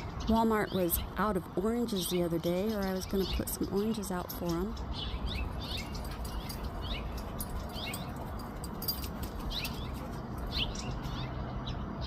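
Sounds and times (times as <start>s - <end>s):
songbirds chirping alarm calls: 0.0s - 12.0s.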